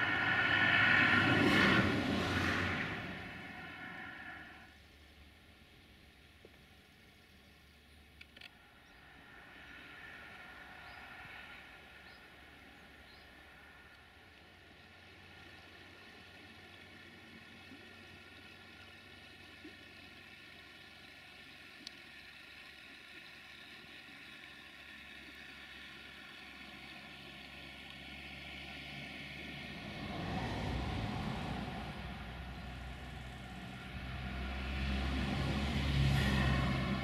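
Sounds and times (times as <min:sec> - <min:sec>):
distant diesel train engine hum: 0:00.0 - 0:37.0.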